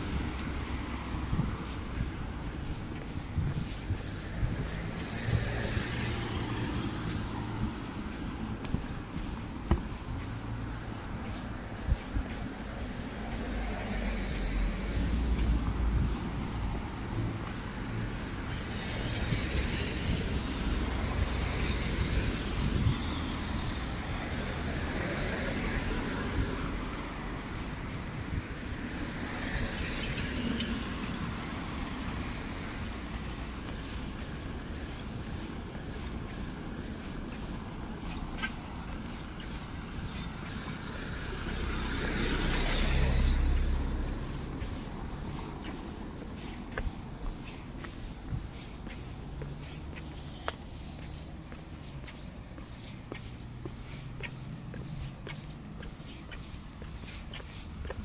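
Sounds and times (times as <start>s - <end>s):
tyre noise: 0.0s - 26.2s, 27.6s - 58.0s
background traffic: 0.0s - 58.0s
vehicles passing: 0.0s - 58.0s.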